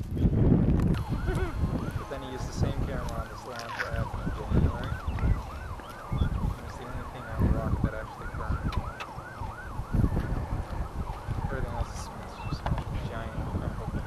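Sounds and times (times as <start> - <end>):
low rumbles: 0.0 - 14.0
electronic siren yelping: 1.0 - 12.6.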